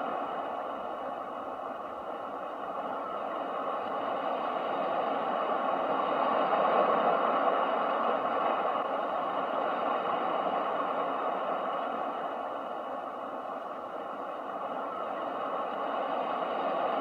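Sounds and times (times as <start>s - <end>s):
ocean waves: 0.0s - 17.0s.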